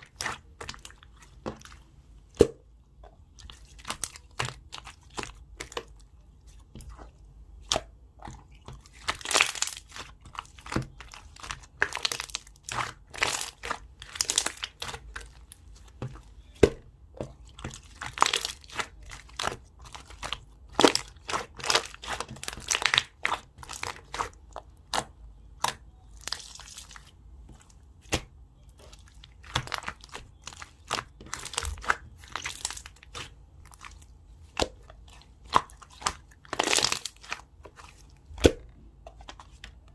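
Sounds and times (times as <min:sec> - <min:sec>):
slime squished by hand: 0:06.6 - 0:39.8.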